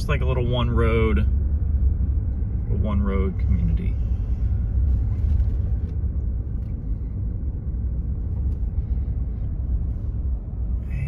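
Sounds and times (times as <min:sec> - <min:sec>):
car interior engine rumble: 0:00.0 - 0:11.0
tyre road noise: 0:00.0 - 0:11.0.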